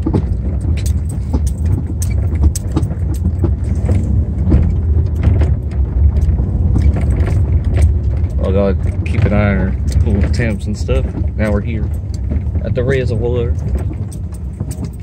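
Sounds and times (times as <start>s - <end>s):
car knocks and rattles: 0.0s - 15.0s
engine and tyres rumbling: 0.0s - 15.0s.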